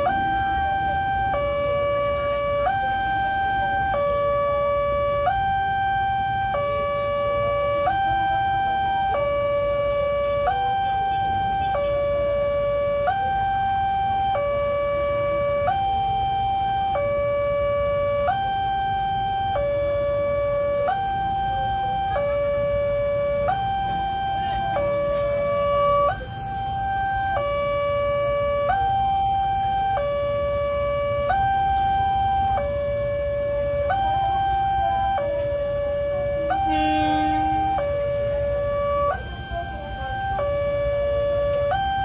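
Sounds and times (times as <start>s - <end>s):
level crossing two-tone alarm: 0.0s - 42.0s.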